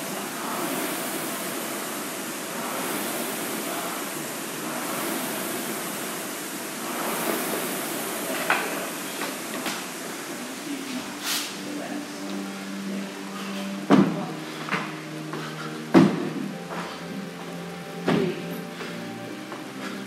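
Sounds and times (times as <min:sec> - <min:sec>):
rowing machine flywheel whooshing: 0:00.0 - 0:20.0.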